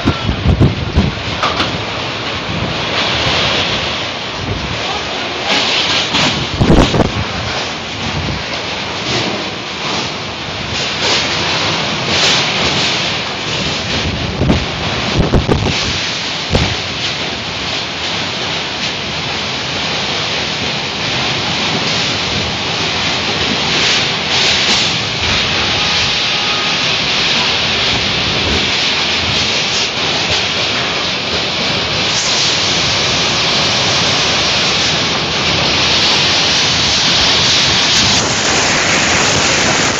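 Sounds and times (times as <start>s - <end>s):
heavy rain: 0.0s - 39.9s
wind gusts buffeting microphone: 0.0s - 39.9s.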